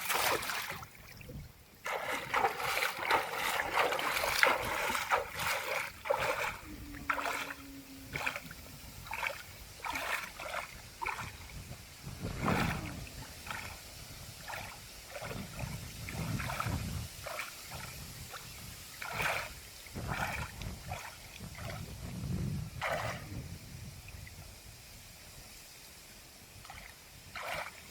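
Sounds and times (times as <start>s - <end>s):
water splashing and sloshing: 0.0s - 24.6s, 26.4s - 27.9s.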